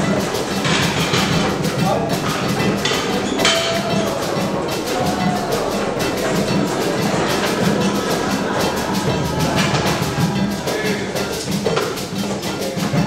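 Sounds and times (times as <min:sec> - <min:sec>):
percussion music with fast beat: 0:00.0 - 0:13.0.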